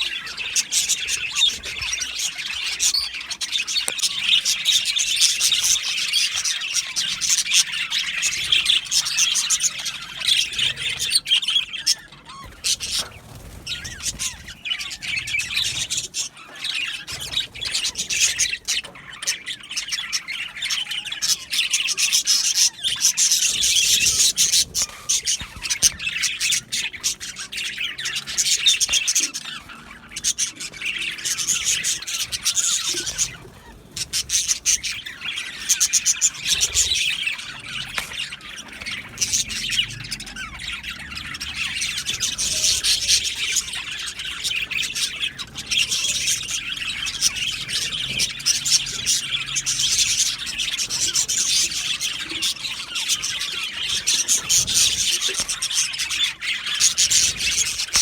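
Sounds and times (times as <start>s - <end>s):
budgerigars chirping and squawking: 0.0s - 58.0s.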